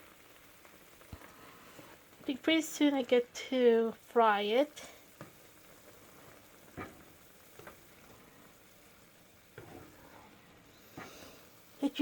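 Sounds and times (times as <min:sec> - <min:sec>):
sausages simmering in water: 0:00.0 - 0:12.0.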